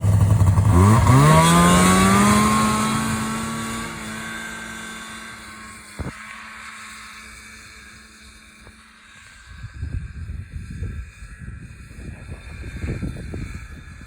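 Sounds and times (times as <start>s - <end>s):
snowmobile engine accelerating: 0.0s - 14.0s.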